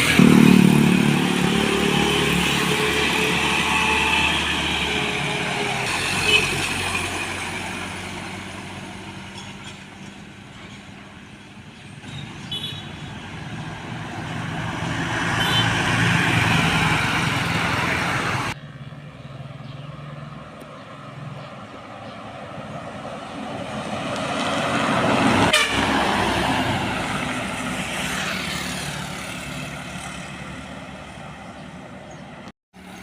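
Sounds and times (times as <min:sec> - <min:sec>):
heavy trucks passing: 0:00.0 - 0:33.0.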